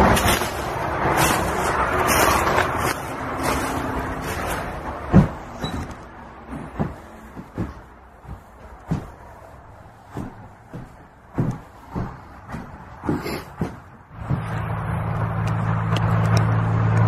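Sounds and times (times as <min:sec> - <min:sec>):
footsteps on wooden floorboards: 0:00.0 - 0:15.4
road traffic passing: 0:00.0 - 0:17.0.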